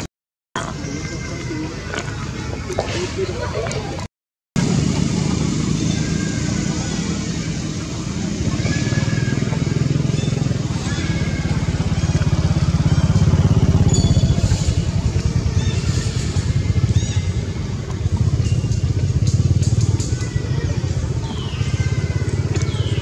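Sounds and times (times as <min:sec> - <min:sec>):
motor engine running: 0:04.6 - 0:23.0.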